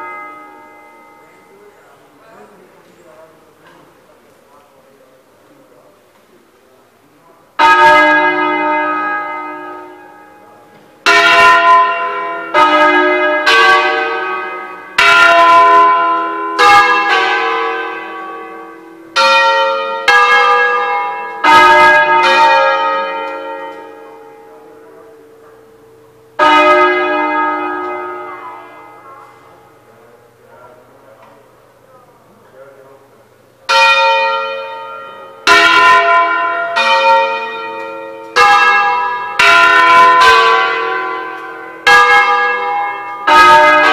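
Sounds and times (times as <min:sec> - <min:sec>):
church bells ringing: 0:00.0 - 0:03.5, 0:07.5 - 0:31.9, 0:32.5 - 0:43.9.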